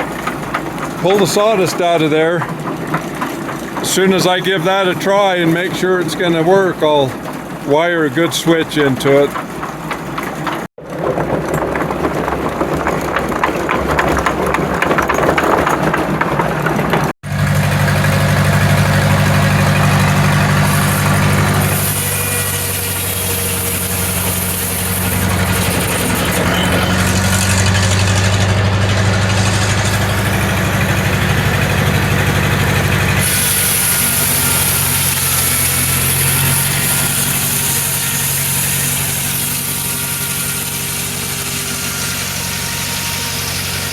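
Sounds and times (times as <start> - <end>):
rough noisy machine: 0.0 - 43.9
sawmill engine running: 0.0 - 43.9.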